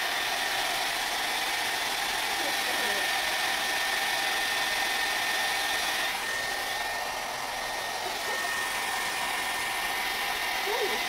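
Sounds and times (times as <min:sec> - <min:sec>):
blow dryer rushing air with high whine: 0:00.0 - 0:11.0.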